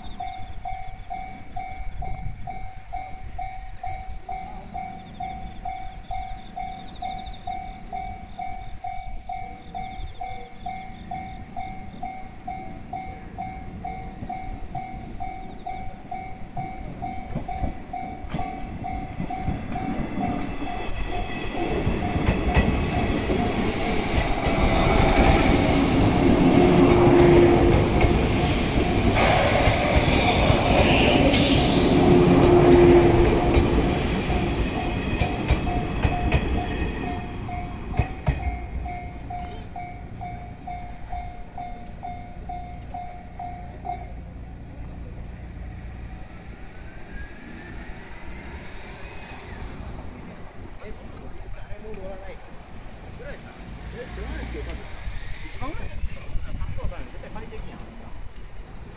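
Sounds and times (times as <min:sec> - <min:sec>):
level-crossing warning bell: 0:00.0 - 0:47.6
electric train passing: 0:00.0 - 0:58.9.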